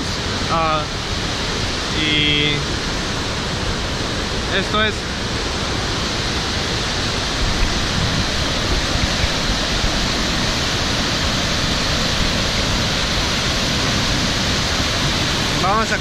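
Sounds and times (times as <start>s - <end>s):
waterfall rushing over rock: 0.0s - 16.0s.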